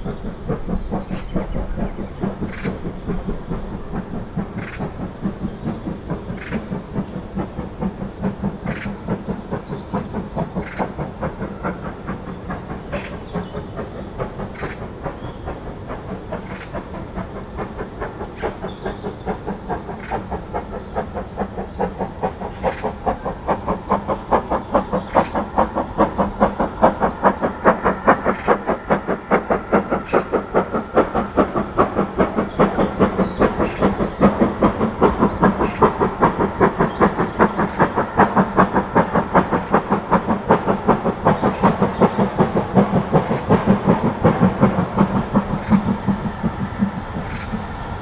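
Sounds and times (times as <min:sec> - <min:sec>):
steam locomotive exhaust beats: 0:00.0 - 0:48.0.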